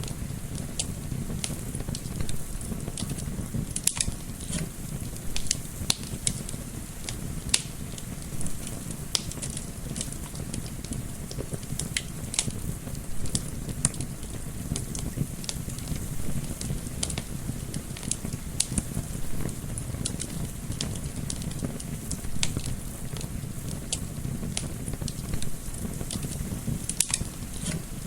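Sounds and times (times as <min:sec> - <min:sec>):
gentle wind: 0:00.0 - 0:28.0
wood fire crackling and popping: 0:00.0 - 0:28.0.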